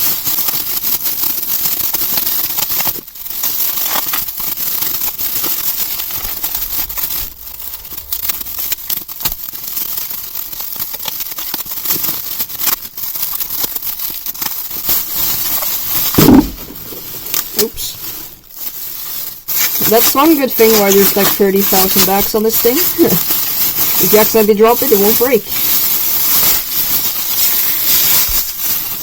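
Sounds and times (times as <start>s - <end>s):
plastic bags crinkling: 0.0s - 29.0s.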